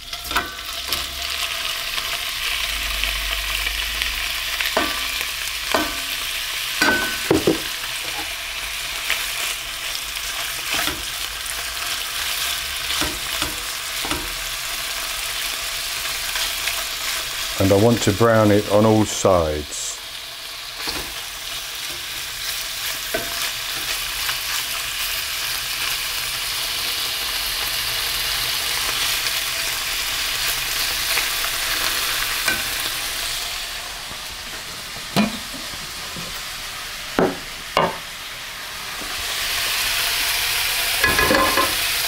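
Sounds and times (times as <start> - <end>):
steak sizzling in oil: 0.0 - 42.0.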